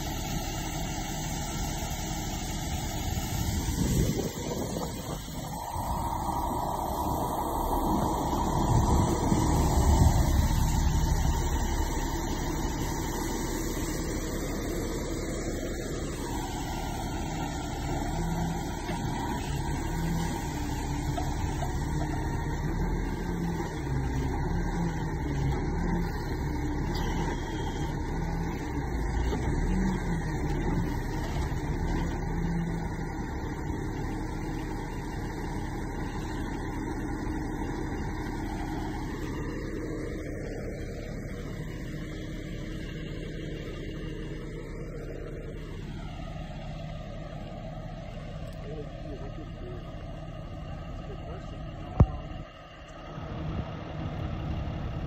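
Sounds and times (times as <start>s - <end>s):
hydraulic whine: 0.0s - 54.5s
truck engine running under load: 0.0s - 55.0s.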